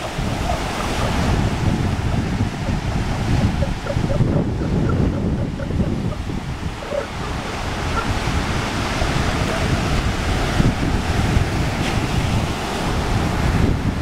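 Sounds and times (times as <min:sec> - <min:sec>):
ocean surf: 0:00.0 - 0:14.0
wind buffeting microphone: 0:00.0 - 0:14.0.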